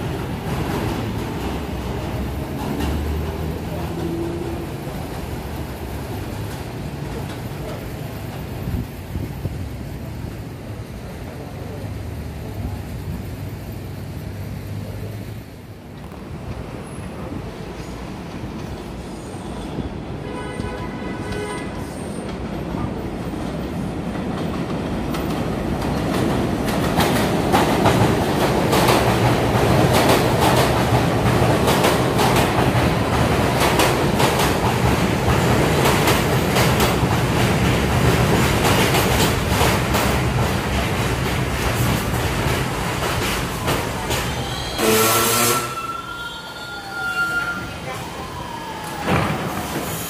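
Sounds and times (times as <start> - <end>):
subway train clattering over rail joints: 0.0 - 50.0.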